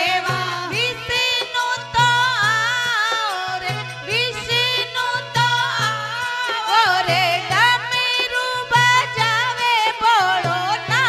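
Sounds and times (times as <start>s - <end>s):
women singing devotional song: 0.0s - 11.0s.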